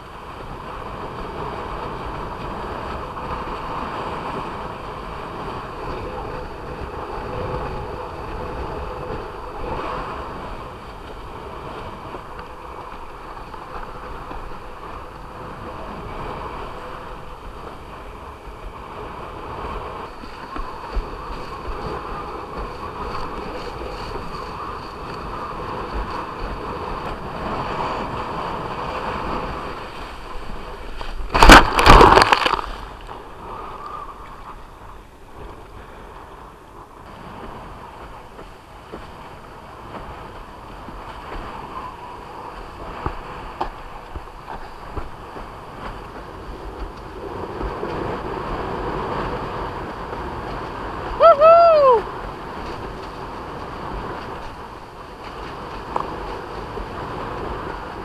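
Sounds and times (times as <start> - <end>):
rush of water and wind: 0.0 - 58.0.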